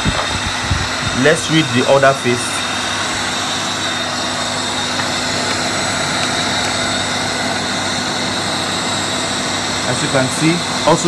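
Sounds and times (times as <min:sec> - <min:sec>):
electric motor humming and whining: 0:00.0 - 0:11.0.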